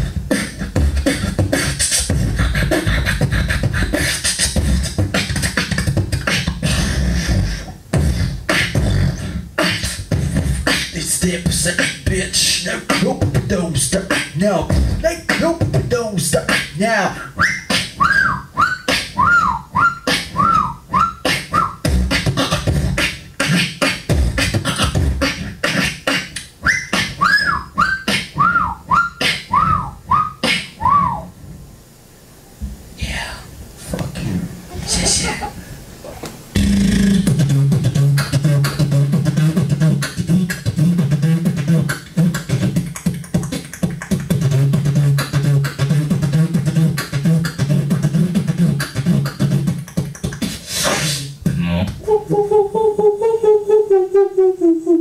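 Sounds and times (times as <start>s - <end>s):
beatboxing into a microphone: 0.0s - 31.3s, 36.6s - 55.0s.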